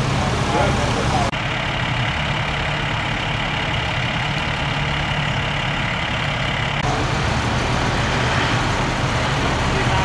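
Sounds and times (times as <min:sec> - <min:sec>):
diesel engines idling: 0:00.0 - 0:10.0
fire engine driving over dirt: 0:00.0 - 0:10.0.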